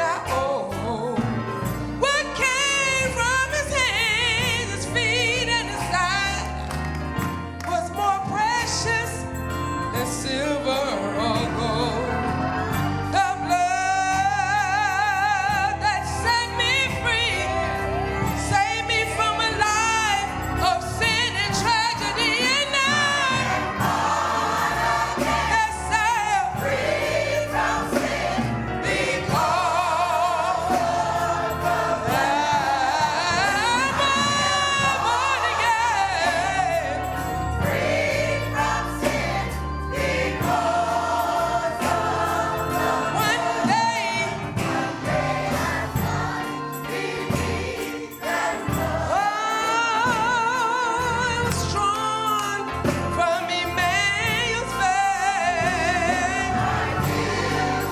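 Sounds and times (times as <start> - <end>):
instrumental accompaniment: 0.0 - 57.9
choir singing: 9.9 - 52.7, 53.3 - 57.9.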